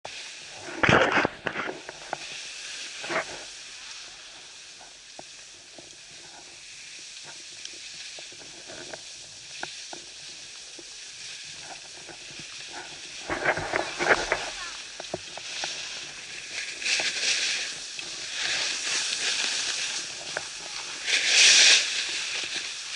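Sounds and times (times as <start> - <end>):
snowboard hissing on snow: 0.1 - 22.9.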